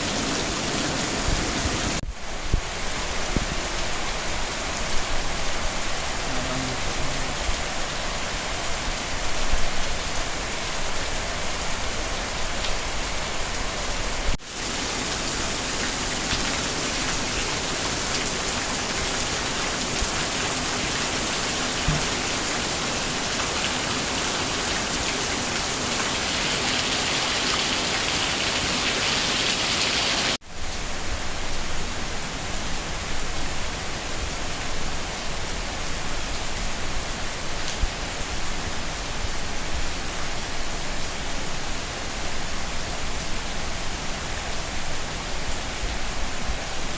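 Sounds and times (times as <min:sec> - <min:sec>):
rain falling and splashing: 0:00.0 - 0:46.9.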